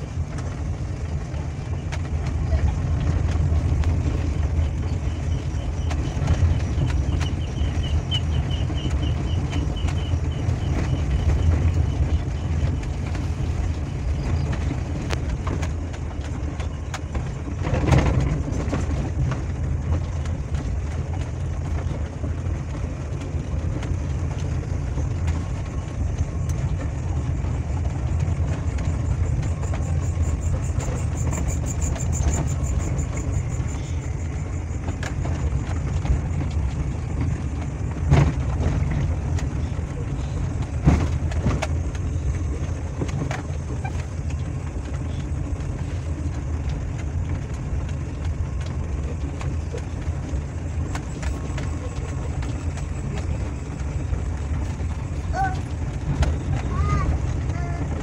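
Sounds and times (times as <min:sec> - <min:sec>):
engine and road rumble in cabin: 0:00.0 - 0:58.0.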